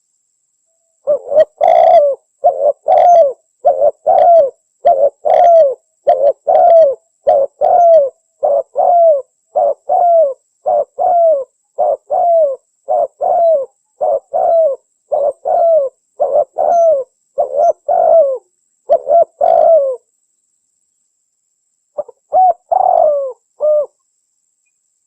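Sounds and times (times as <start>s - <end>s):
dove cooing: 1.0s - 20.1s, 22.0s - 24.0s.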